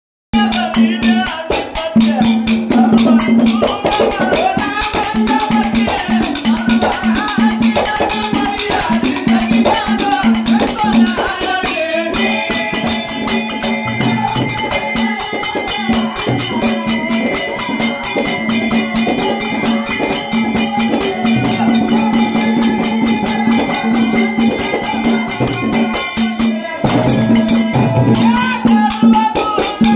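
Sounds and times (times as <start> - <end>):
hand drum beat: 0.4 - 29.9
held melody line: 0.4 - 29.9
jingling hand cymbals: 0.4 - 29.9.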